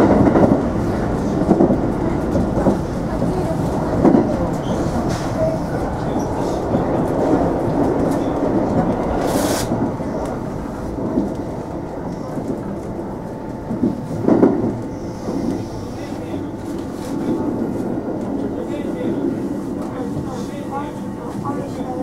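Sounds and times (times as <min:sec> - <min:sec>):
train wheel and track noise: 0:00.0 - 0:22.0.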